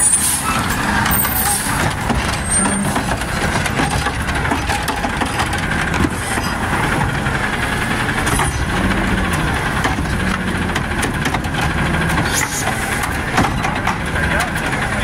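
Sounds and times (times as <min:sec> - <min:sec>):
garbage truck engine revving: 0:00.0 - 0:15.0
metal clanks: 0:00.6 - 0:07.4, 0:08.1 - 0:15.0.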